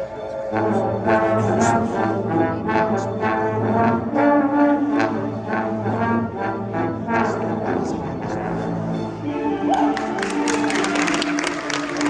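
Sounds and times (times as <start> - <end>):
held brass-like notes: 0.0 - 12.0.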